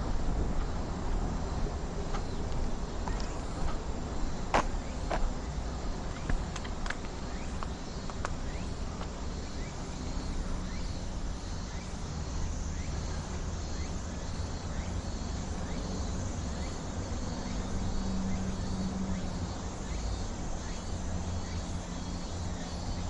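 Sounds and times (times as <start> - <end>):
insects calling: 0.0 - 23.0.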